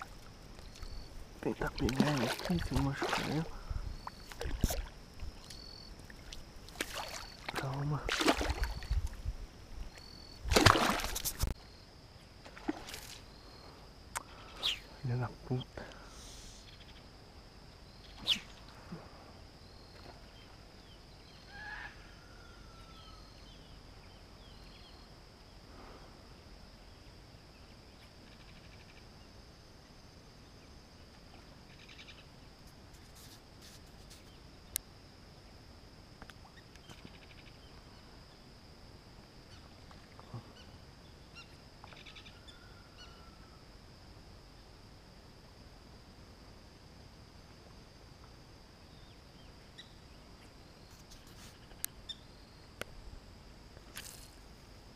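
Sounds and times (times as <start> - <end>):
steady high-pitched hum: 0.0 - 54.9.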